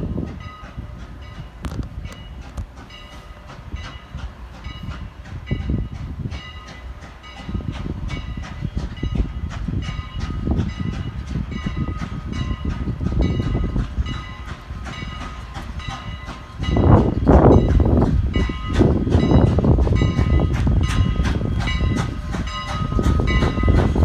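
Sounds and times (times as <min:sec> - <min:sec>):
train rumble: 0:00.0 - 0:24.0
train wheels clacking: 0:00.0 - 0:24.0.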